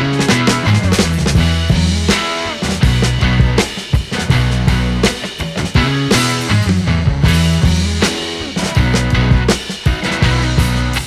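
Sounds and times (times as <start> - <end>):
rock music with drums and bass: 0.0 - 11.0.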